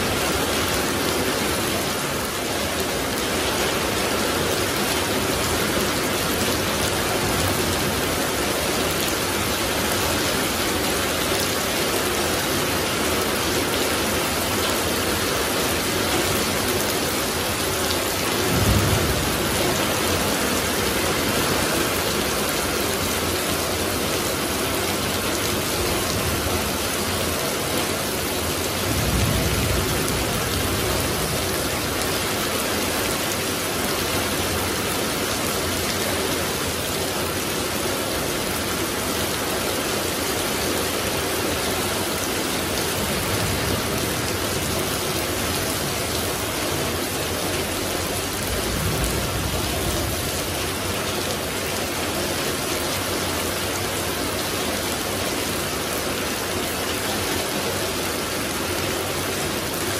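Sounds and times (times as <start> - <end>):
heavy rain on leaves and pavement: 0.0 - 59.9.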